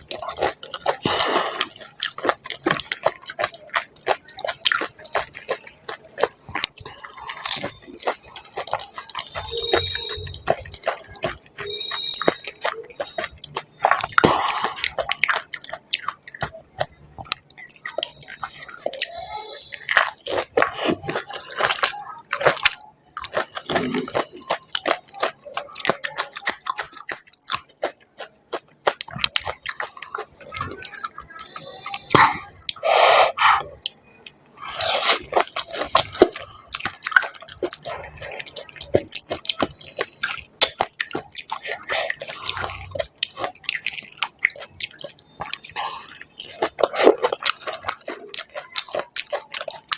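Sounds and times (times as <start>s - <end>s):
wet mouth chewing sounds: 0.0s - 49.9s.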